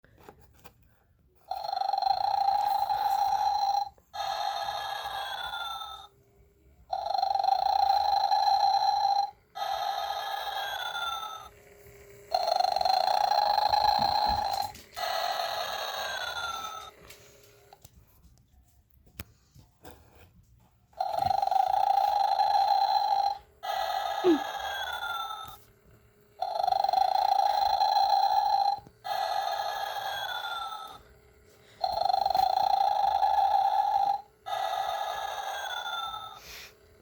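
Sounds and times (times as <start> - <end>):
electronic snoring: 1.4 - 6.2, 6.8 - 17.8, 21.0 - 37.0.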